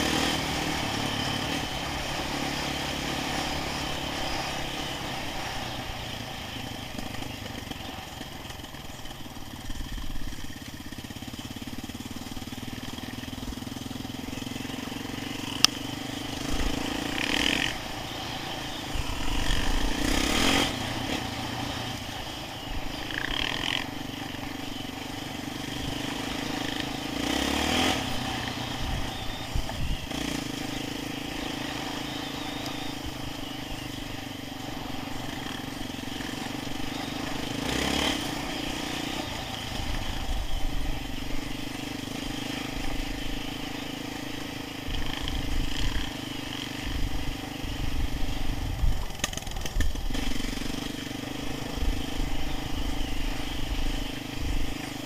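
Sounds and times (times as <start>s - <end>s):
quad engine running: 0.0s - 55.0s.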